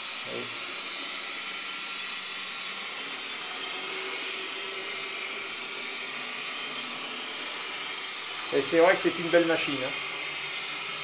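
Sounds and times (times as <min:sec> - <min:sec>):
model locomotive engine sound: 0:00.0 - 0:11.0.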